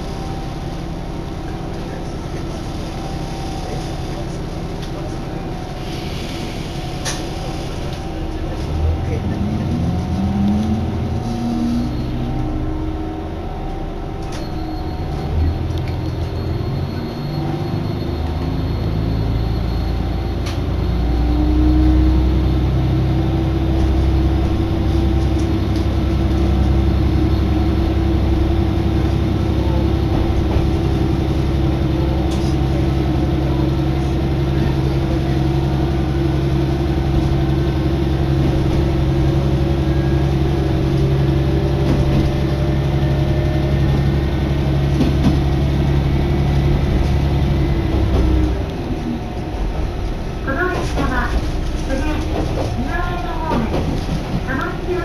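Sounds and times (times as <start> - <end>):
diesel train engine droning: 0.0 - 55.0.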